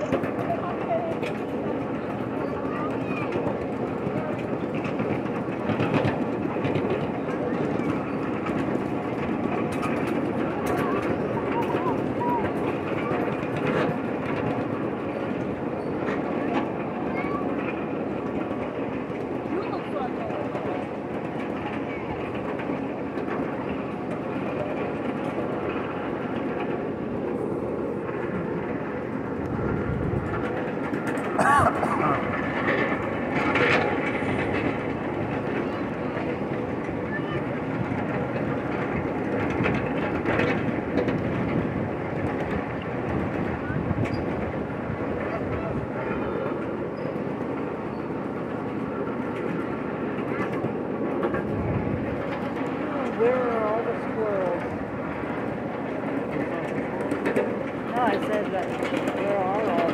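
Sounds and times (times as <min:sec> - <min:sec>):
train wheels rolling on rail: 0:00.0 - 0:59.9.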